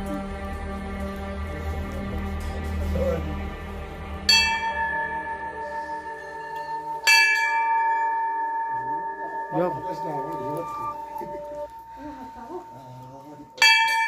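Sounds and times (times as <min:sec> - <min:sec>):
temple bell ringing: 0:01.7 - 0:14.0.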